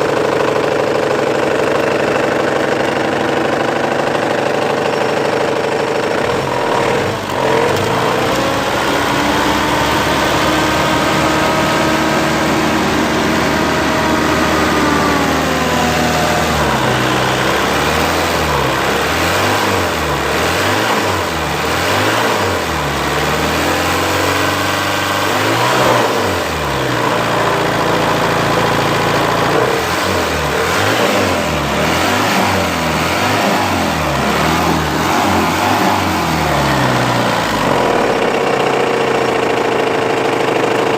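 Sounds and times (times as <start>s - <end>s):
diesel engine knocking: 0.0s - 40.9s.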